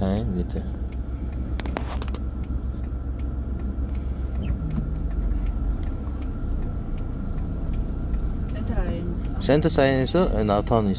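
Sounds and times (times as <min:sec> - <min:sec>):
car engine and road rumble: 0:00.0 - 0:10.9
light even ticking: 0:00.0 - 0:10.9.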